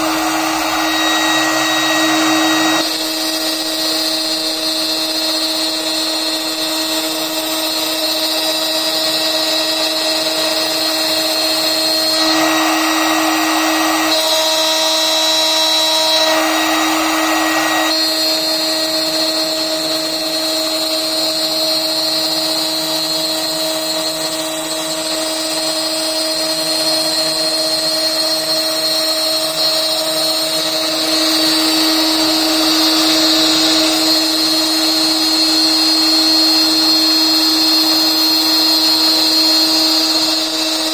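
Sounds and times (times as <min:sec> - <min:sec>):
end mill cutting plastic: 0:00.0 - 0:40.9
router spindle whining: 0:00.0 - 0:40.9.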